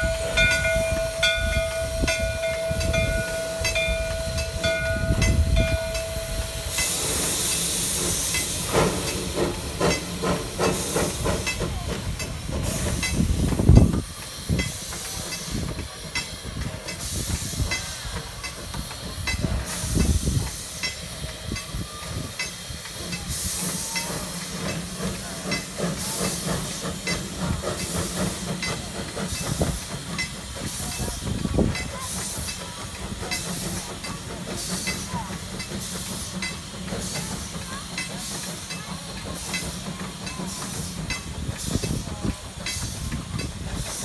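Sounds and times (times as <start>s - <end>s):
steam hissing bursts: 0.0s - 44.0s.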